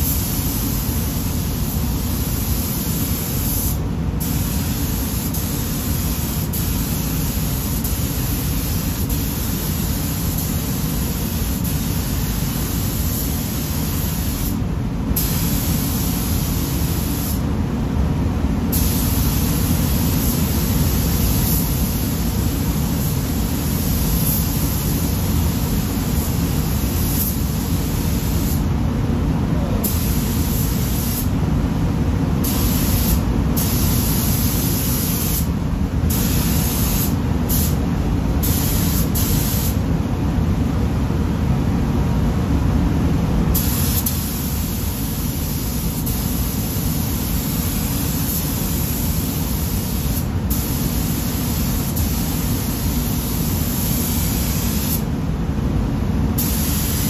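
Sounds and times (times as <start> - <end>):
spray gun hissing: 0.0 - 14.6, 15.2 - 17.4, 18.7 - 28.7, 29.8 - 31.3, 32.4 - 37.8, 38.4 - 39.8, 43.6 - 55.1, 56.4 - 57.0.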